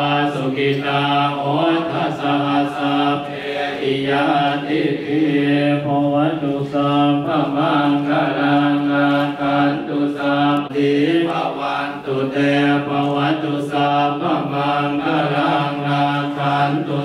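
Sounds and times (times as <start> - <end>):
monks chanting in unison: 0.0 - 17.0.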